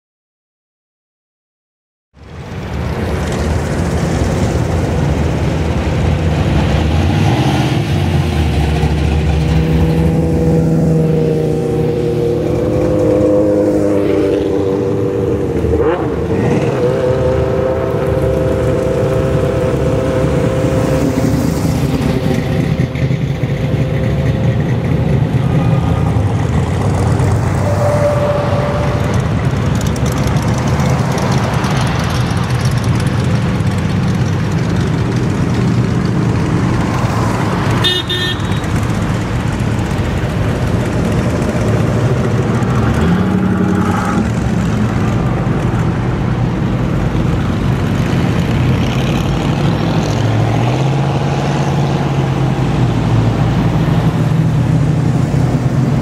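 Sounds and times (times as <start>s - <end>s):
cars driving past: 2.2s - 56.0s.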